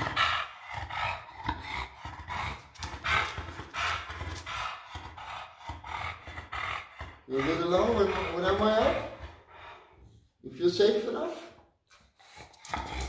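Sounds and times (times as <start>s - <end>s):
dog panting: 0.0s - 10.4s, 11.1s - 13.0s.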